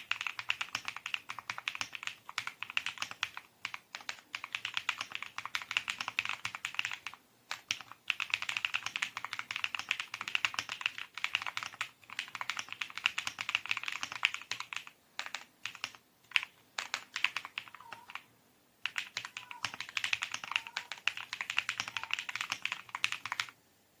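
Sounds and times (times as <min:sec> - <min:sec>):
fast typing on keyboard: 0:00.0 - 0:23.6.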